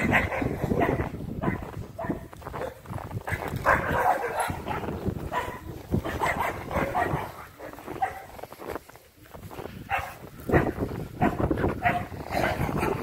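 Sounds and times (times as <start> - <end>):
dogs barking and whimpering: 0.0 - 8.3, 9.9 - 13.0
footsteps crunching through snow: 0.0 - 13.0.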